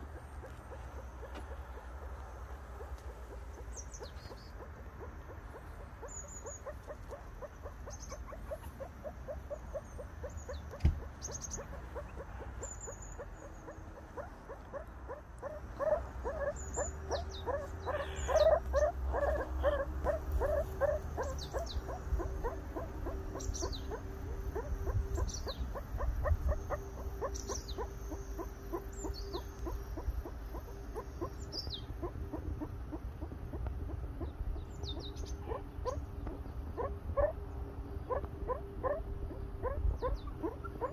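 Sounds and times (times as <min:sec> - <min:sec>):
meerkat alarm chirps: 0:02.8 - 0:33.3, 0:33.9 - 0:37.4, 0:38.0 - 0:40.9.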